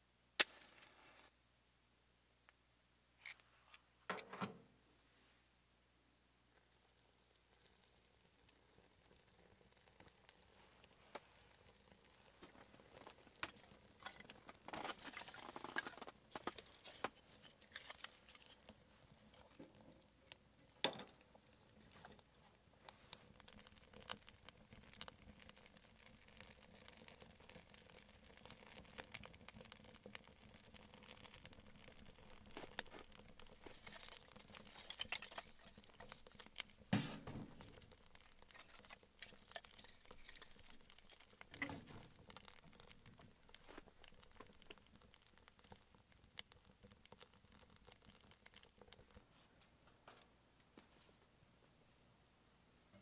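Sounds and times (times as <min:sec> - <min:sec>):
wood fire crackling: 0:06.4 - 0:51.4.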